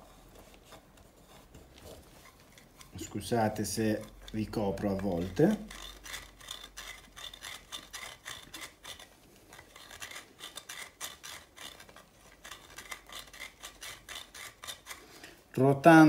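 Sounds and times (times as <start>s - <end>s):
pastel scraping on metal grater: 0.0s - 15.3s.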